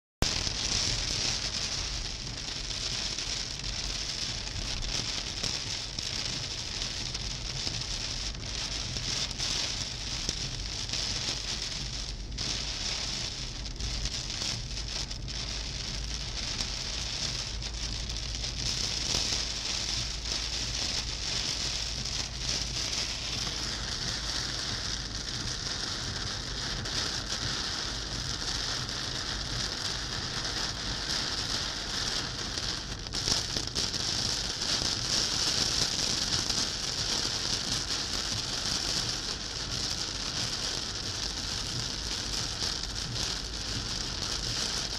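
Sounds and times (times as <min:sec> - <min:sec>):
rain hitting car windscreen: 0:00.2 - 0:44.9.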